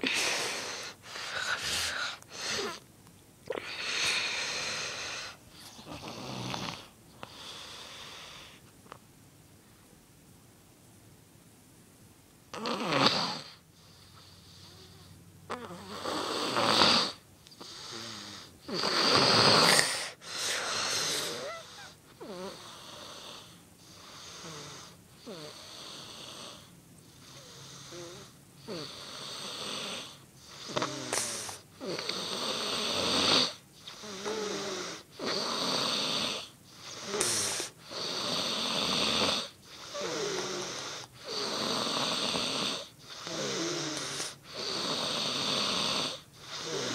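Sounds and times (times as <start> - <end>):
person snoring raspily: 3.5 - 8.5, 12.5 - 13.6, 14.6 - 46.9.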